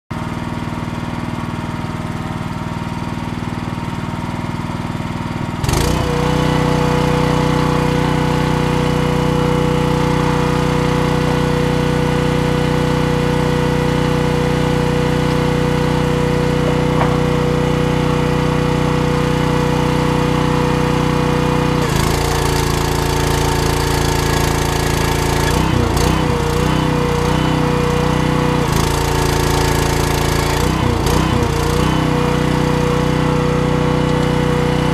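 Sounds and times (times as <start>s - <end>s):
arc welder buzzing: 4.6s - 34.9s.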